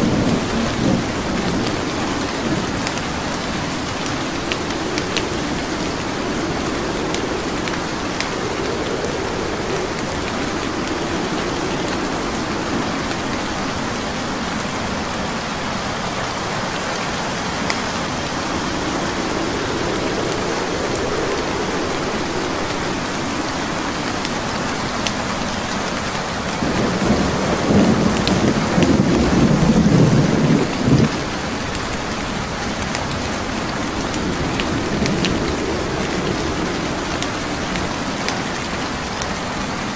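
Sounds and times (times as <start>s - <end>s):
steady rain: 0.0s - 39.9s
thunder rumbling: 0.0s - 39.9s
wood fire crackling: 0.0s - 39.9s.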